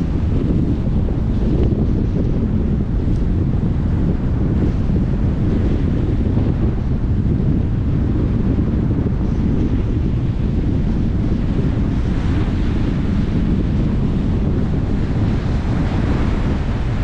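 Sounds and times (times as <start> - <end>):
ocean surf breaking on beach: 0.0 - 17.0
wind rumbling on microphone: 0.0 - 17.0.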